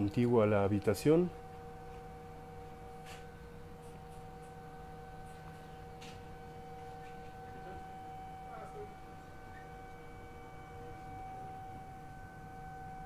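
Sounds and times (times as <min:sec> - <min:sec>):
electrical hum with whining tones: 0:00.0 - 0:13.0.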